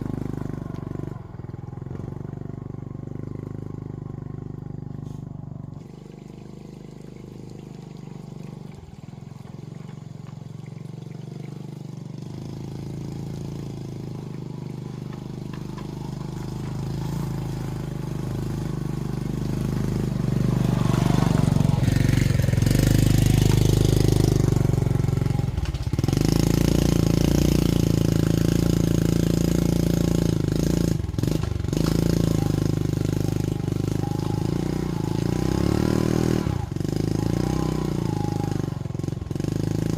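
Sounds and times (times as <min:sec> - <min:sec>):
motorbike engine running: 0:00.0 - 0:39.9.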